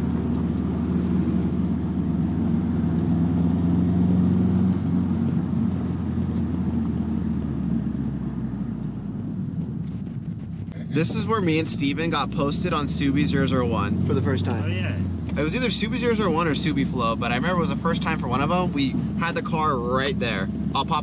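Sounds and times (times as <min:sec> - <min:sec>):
car engine drone from inside: 0:00.0 - 0:21.0.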